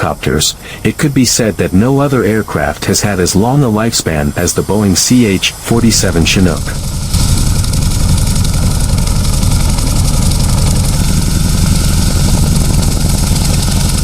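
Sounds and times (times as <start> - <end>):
helicopter rotors beating: 0.0 - 14.0.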